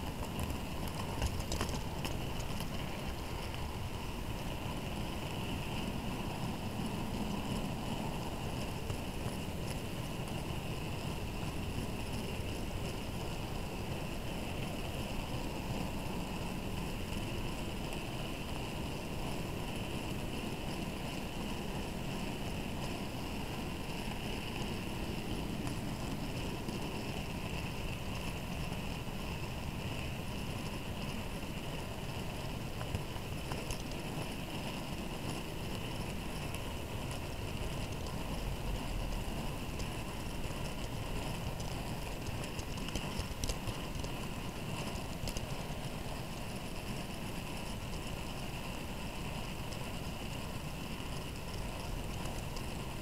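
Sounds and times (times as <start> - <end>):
small metal wheels rumbling on rail: 0.0 - 53.0.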